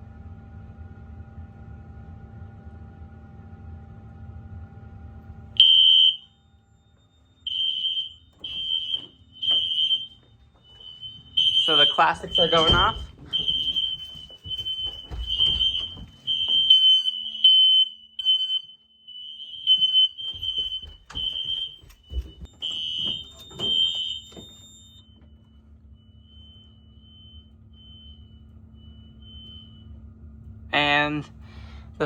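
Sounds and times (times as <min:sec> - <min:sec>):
smoke alarms beeping: 0:05.6 - 0:31.7.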